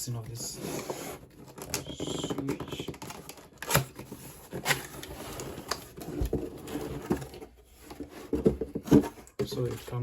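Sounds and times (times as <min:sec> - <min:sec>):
cardboard box packaging rustling: 0:00.6 - 0:10.0.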